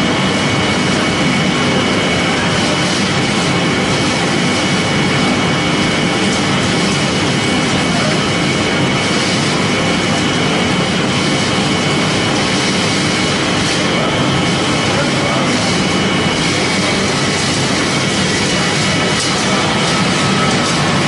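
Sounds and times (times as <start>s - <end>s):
high mechanical whine: 0.0s - 21.0s
processing machine running: 0.0s - 21.0s.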